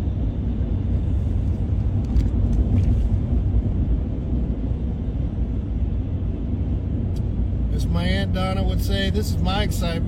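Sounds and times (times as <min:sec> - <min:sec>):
truck engine and tyre rumble: 0:00.0 - 0:10.0.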